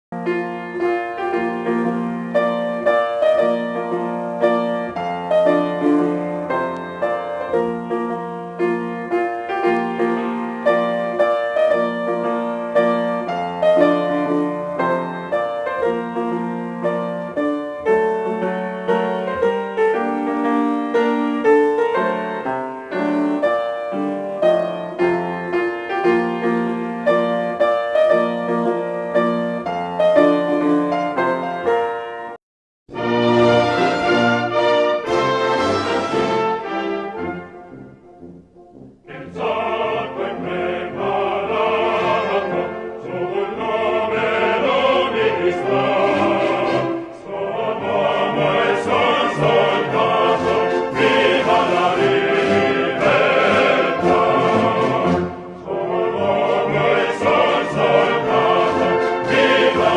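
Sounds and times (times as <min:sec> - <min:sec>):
piano music: 0:00.1 - 0:59.9.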